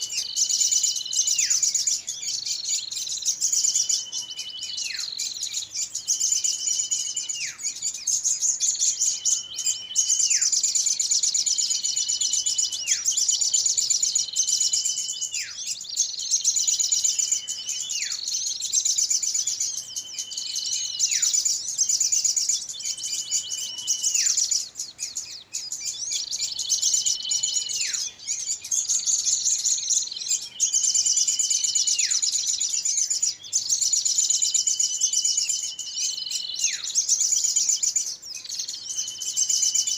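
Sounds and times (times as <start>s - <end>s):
songbirds chattering: 0.0s - 39.9s.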